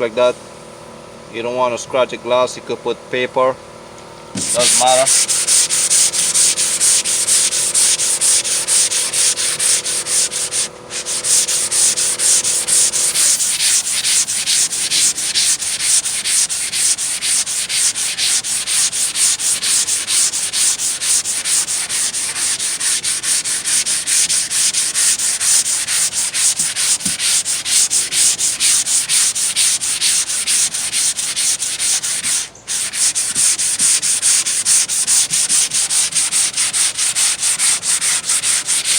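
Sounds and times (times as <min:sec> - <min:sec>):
sandpaper sanding car body filler: 0:04.4 - 0:38.9.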